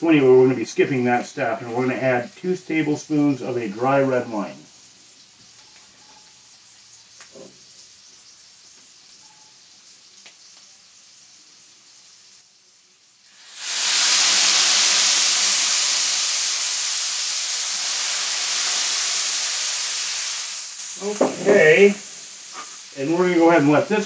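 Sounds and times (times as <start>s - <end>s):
wine sizzling in hot skillet: 0.0s - 24.0s.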